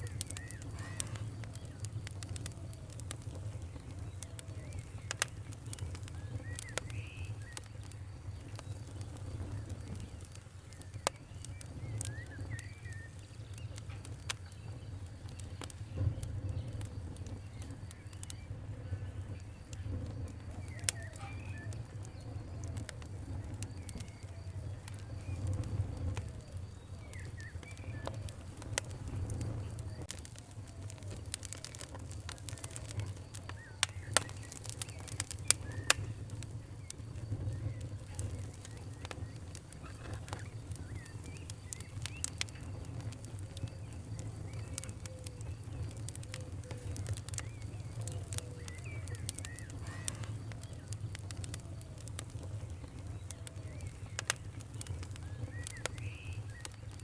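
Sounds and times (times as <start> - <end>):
birds calling: 0.0 - 56.9
wood fire crackling: 0.0 - 57.0.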